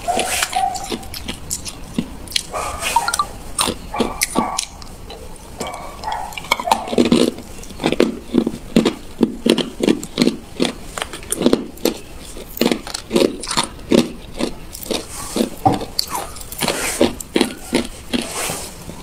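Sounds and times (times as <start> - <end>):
ice cubes crunching between teeth: 0.2 - 5.0, 6.1 - 18.3.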